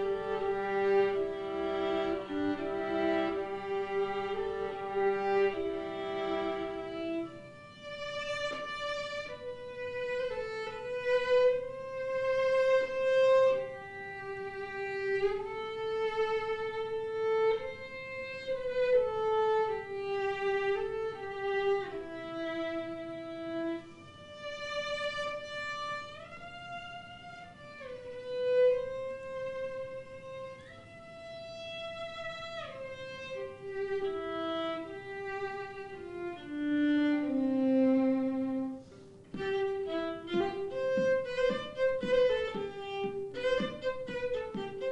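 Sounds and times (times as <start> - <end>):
violin slow melody: 0.0 - 44.9.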